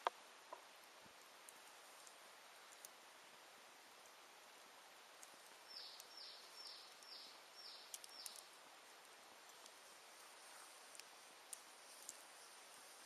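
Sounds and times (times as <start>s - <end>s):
wood fire crackling and popping: 0.0s - 3.0s, 5.0s - 12.5s.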